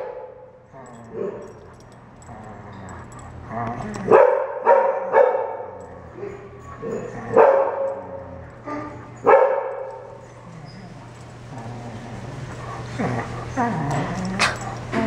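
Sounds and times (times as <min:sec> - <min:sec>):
dogs play barking and yipping: 0:00.0 - 0:15.0.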